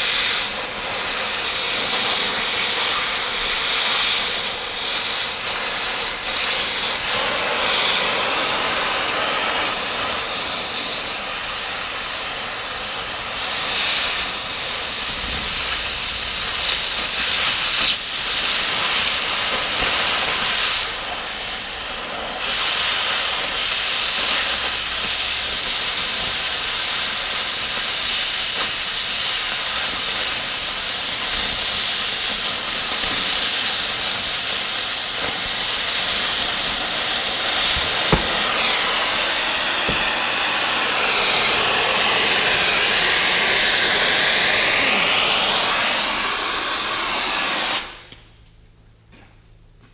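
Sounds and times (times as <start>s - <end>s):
cutting torch hissing: 0.0s - 48.3s.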